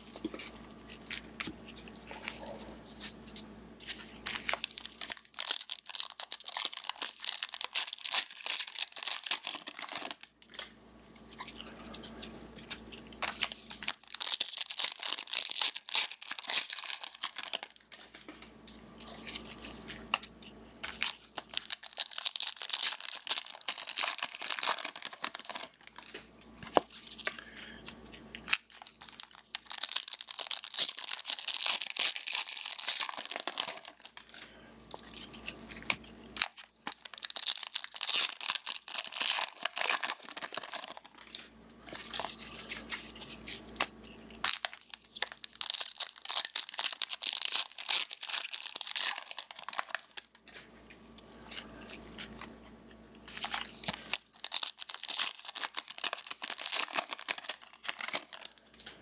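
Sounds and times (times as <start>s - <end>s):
wrappers torn and crinkled: 0.0s - 59.0s.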